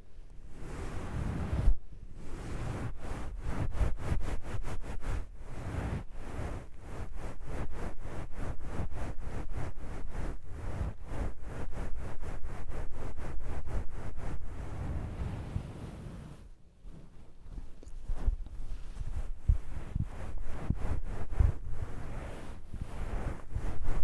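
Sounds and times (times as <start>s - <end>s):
towel rubbed against microphone: 0.5s - 24.0s.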